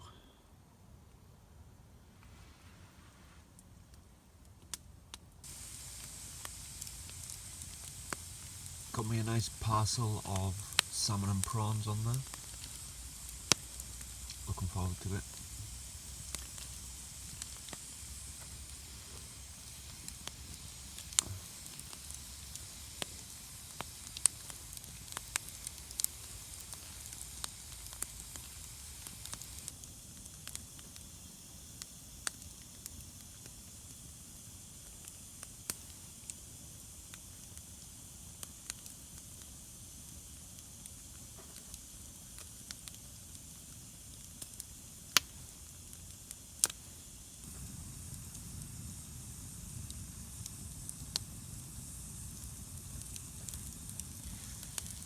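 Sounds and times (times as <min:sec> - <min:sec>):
fire hiss: 0:02.0 - 0:04.1, 0:05.4 - 0:55.0
campfire crackling and popping: 0:03.5 - 0:55.0.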